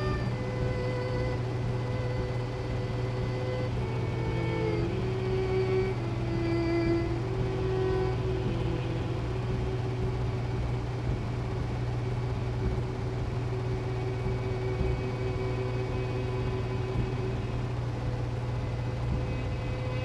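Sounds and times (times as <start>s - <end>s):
dark ambient drone: 0.0s - 20.0s
high held tones: 0.0s - 20.0s.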